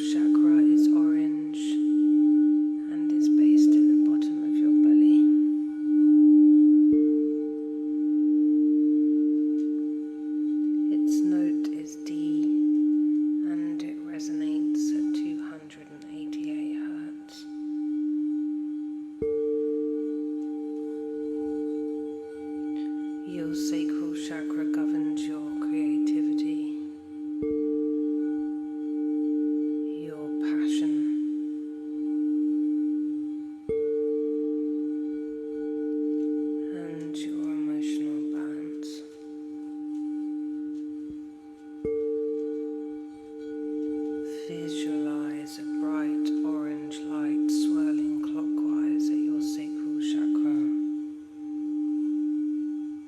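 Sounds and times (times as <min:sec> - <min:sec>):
higher-pitched bowl struck: 0:00.0 - 0:53.0
singing bowl ringing low tone: 0:00.0 - 0:53.0.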